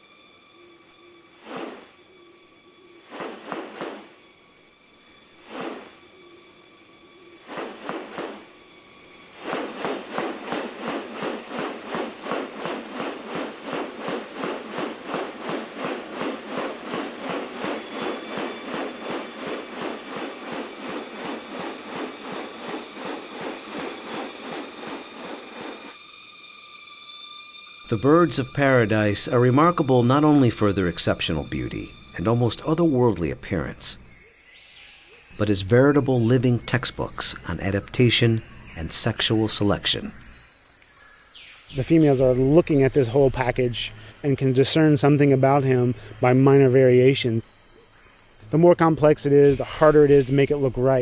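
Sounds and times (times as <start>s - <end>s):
high insect drone: 0.0s - 51.0s.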